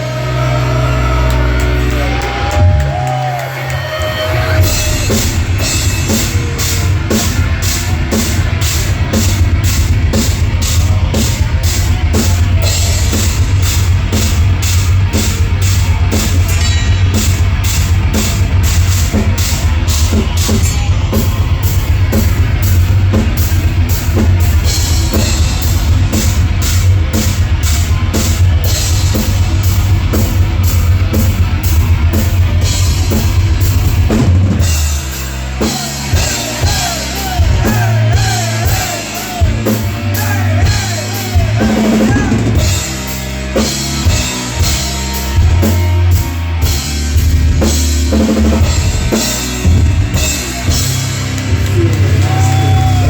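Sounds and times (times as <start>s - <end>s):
heavy rock band playing: 0.0s - 53.0s
pounding drum kit: 0.0s - 53.0s.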